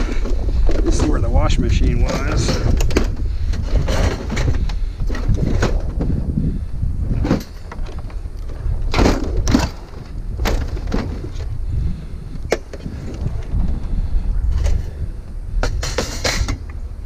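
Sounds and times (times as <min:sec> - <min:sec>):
scrap clunks and scrapes: 0:00.0 - 0:11.6, 0:12.4 - 0:16.8
steady low rumble: 0:00.0 - 0:17.0.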